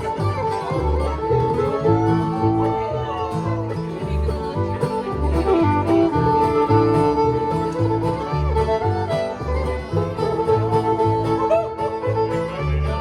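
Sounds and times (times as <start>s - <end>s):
bass line: 0.0s - 13.0s
bluegrass band playing: 0.0s - 13.0s
fiddle melody: 0.0s - 13.0s.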